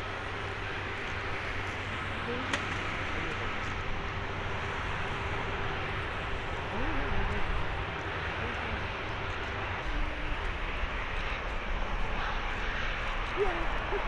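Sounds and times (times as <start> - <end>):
distant jet engine roar: 0.0 - 14.0.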